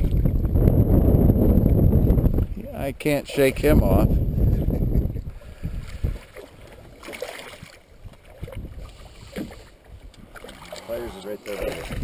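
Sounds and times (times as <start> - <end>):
water splashing against boat: 0.0 - 12.0
wind rumbling on microphone: 0.0 - 12.0.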